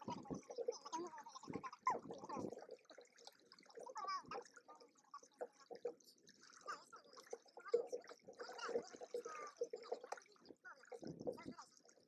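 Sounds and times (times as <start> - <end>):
water splashing against hulls: 0.0 - 12.0.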